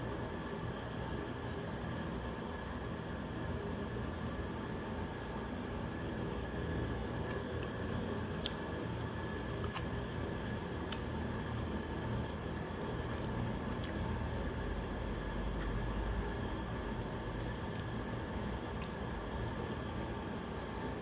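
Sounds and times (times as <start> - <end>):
low background hum: 0.0 - 21.0
rice squishing by hand: 0.0 - 21.0
chewing: 0.1 - 3.0, 6.6 - 21.0.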